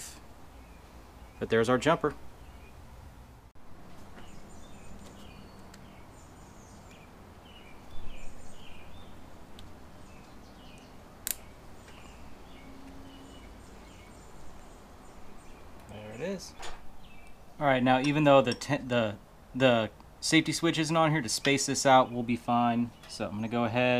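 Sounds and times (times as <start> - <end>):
small birds chirping faintly: 0.0 - 23.9.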